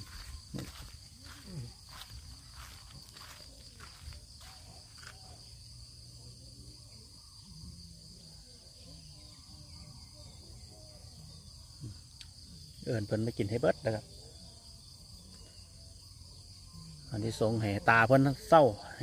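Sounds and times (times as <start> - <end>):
crickets chirring: 0.0 - 19.0
faint distant voices: 0.0 - 19.0.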